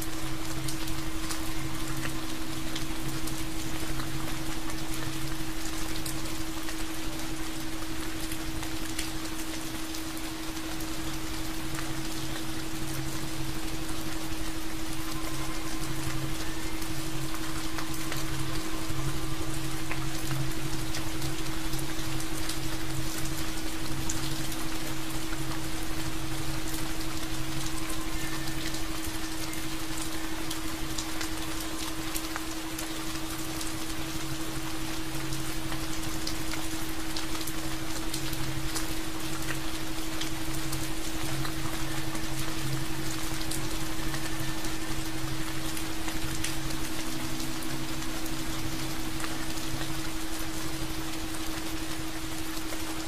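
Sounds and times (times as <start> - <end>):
rain drops ticking: 0.0 - 53.0.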